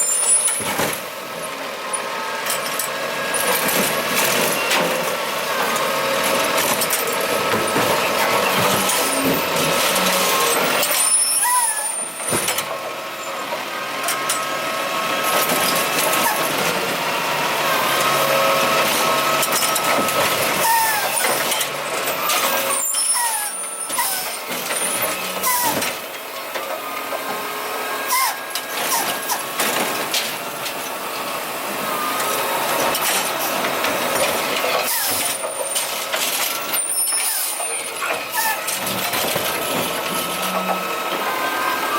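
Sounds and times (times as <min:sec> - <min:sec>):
garbage truck engine: 0:00.0 - 0:41.9.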